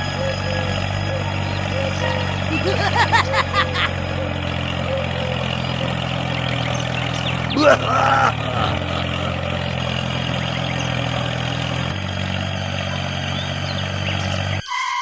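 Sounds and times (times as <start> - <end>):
small diesel engine idling: 0.0 - 14.7.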